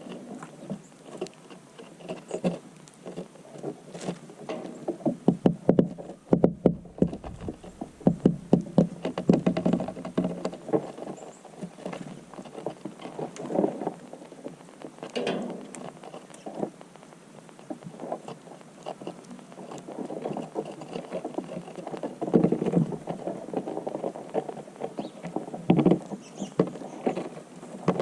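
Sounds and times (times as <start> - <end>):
small taps and knocks: 0.0 - 28.0.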